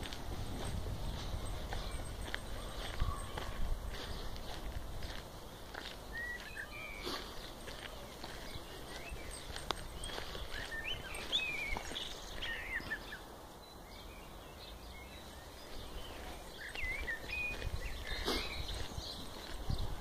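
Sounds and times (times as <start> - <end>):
birds chirping: 0.0 - 20.0
outdoor background noise: 0.0 - 20.0.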